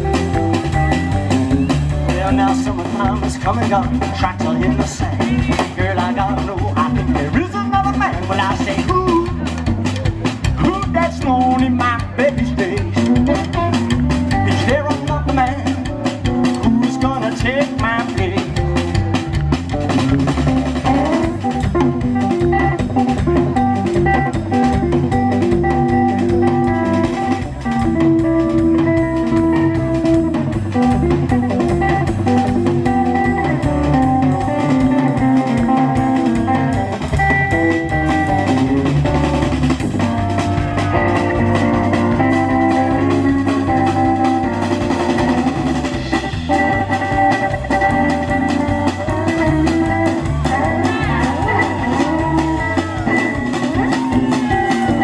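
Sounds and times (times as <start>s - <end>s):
blues guitar lead: 0.0s - 55.0s
drum kit beat: 0.0s - 55.0s.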